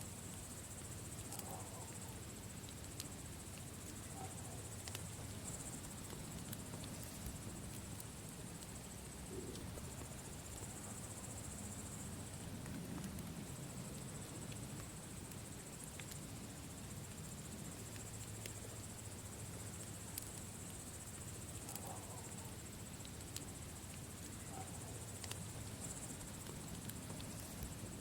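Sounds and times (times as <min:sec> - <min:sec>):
campfire crackling: 0:00.1 - 0:28.0.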